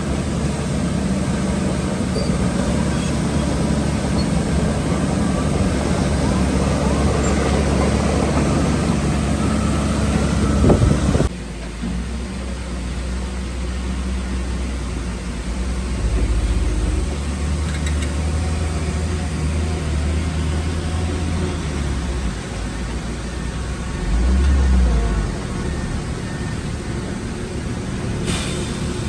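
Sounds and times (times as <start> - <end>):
diesel engine of heavy machinery: 0.0 - 29.0.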